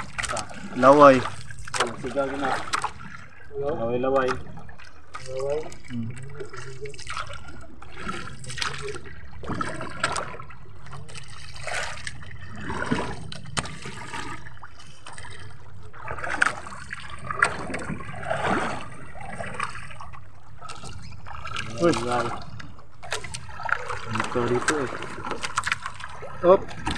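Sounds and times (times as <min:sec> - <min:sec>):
water trickling and splashing: 0:00.0 - 0:26.9.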